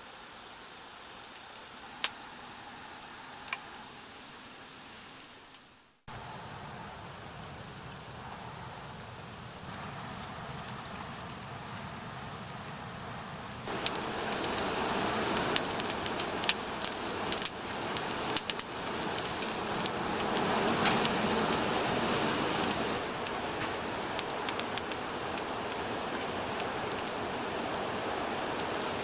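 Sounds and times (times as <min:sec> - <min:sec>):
steady hiss: 0:00.0 - 0:29.0
campfire crackling and popping: 0:01.3 - 0:29.0.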